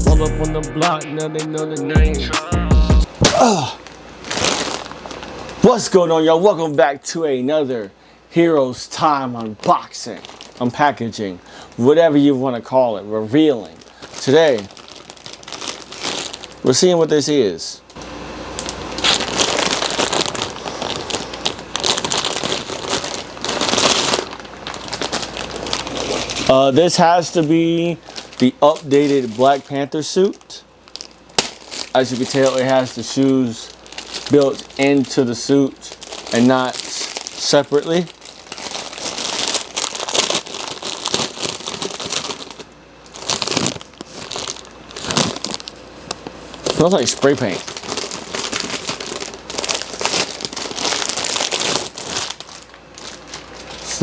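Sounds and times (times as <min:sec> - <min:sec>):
packaging crinkling and rustling: 0:03.4 - 0:06.0, 0:09.2 - 0:12.1, 0:13.2 - 0:54.0.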